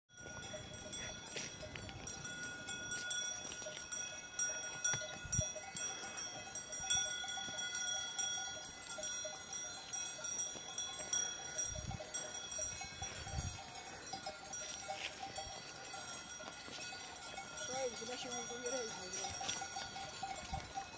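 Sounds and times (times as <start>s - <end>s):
cattle bells clanking: 0.1s - 20.9s.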